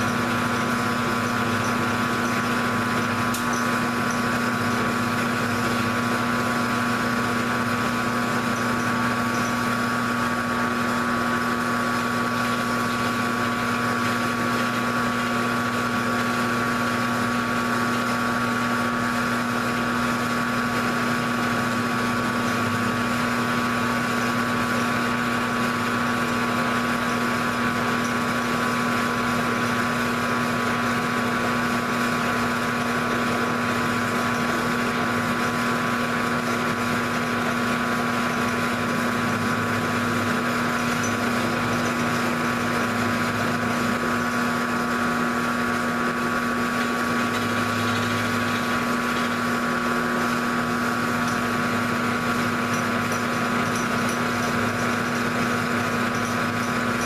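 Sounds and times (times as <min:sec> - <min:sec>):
end mill cutting metal block: 0:00.0 - 0:57.0
milling machine hum and whine: 0:00.0 - 0:57.0.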